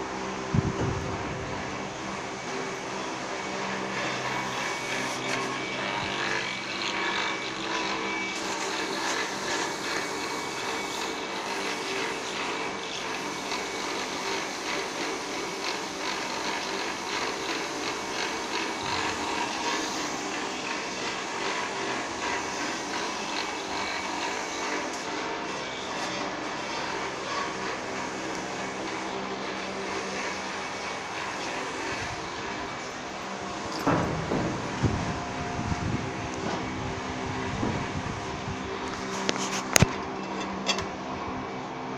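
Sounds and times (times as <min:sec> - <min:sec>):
grinding wheel running: 0:00.0 - 0:41.2
metal scraping against grinding wheel: 0:02.3 - 0:36.8, 0:38.7 - 0:41.1.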